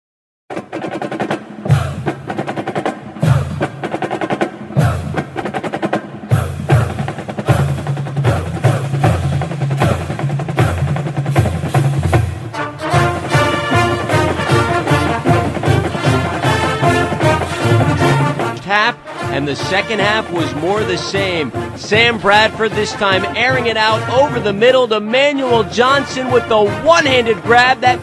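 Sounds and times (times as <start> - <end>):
snare drum runs: 0.5 - 24.8, 25.4 - 28.0
drum-driven soundtrack music: 0.5 - 28.0.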